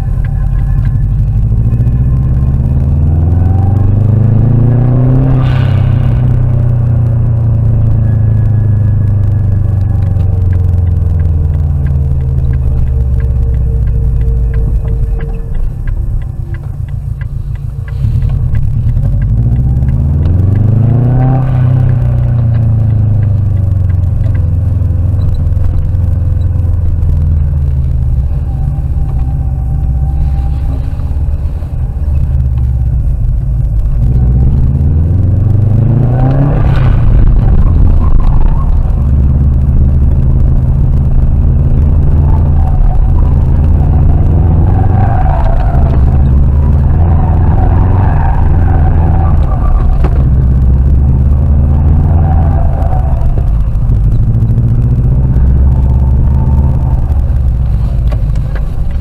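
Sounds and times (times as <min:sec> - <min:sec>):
car engine revving: 0:00.0 - 0:59.0
road noise inside car: 0:00.0 - 0:59.0.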